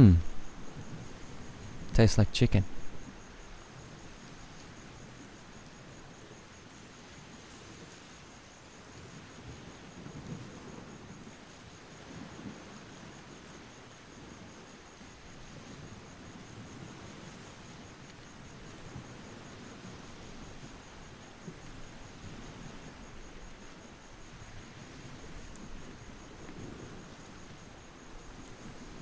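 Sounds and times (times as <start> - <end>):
faint background noise: 0.0 - 29.0.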